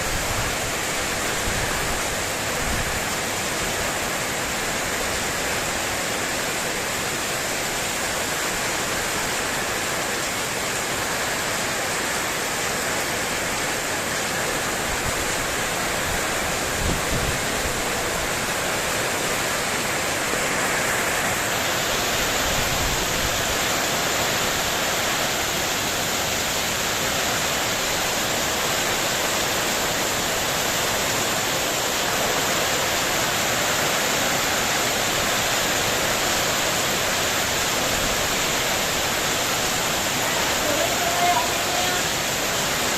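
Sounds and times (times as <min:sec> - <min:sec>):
heavy rain on a metal roof: 0:00.0 - 0:42.9.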